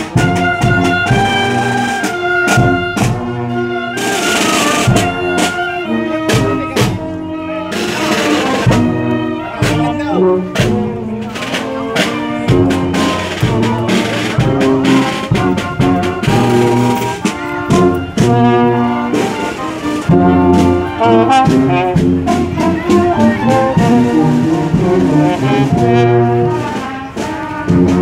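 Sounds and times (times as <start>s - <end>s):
marching brass band playing: 0.0s - 28.0s.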